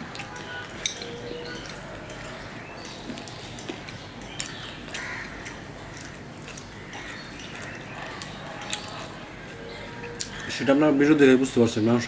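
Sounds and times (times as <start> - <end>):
person chewing: 0.0 - 10.5.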